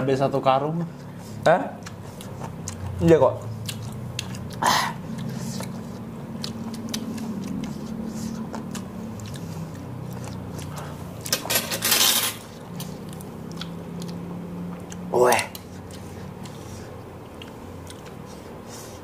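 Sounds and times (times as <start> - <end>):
chewing: 1.0 - 11.5, 12.4 - 19.0.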